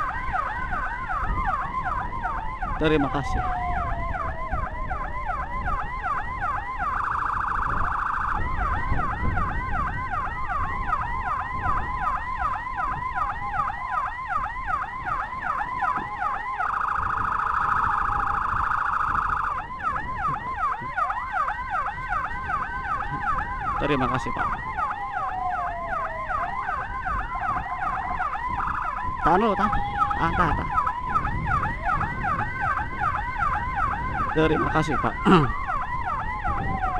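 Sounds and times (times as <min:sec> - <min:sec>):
motorcycle electronic siren: 0:00.0 - 0:36.9.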